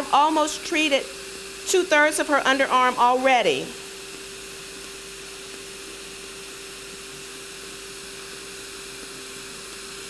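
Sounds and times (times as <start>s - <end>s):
even hiss: 0.0s - 10.0s
steady mid-pitched hum: 0.0s - 10.0s.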